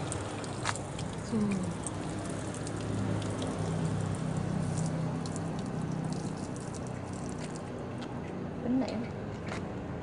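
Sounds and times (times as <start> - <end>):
water splashing onto plastic: 0.0 - 8.2.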